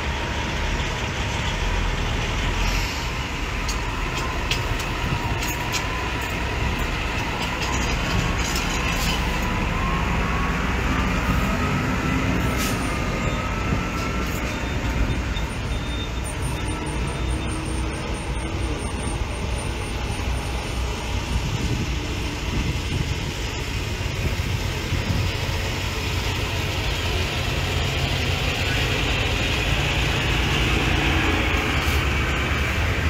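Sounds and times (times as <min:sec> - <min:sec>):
trucks rumbling past: 0:00.0 - 0:33.0.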